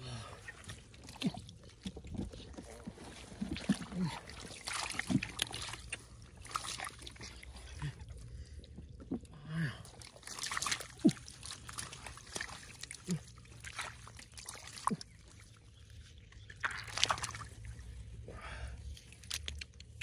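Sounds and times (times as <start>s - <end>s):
shallow water sloshing and splashing: 0.0s - 19.7s.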